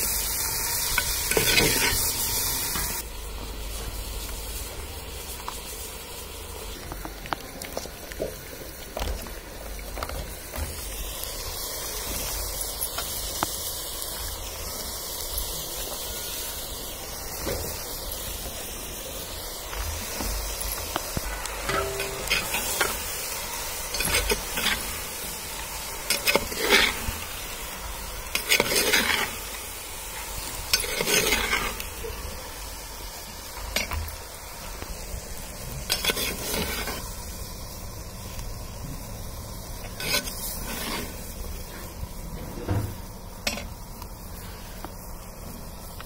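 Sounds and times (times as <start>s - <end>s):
food sizzling: 0.0s - 46.0s.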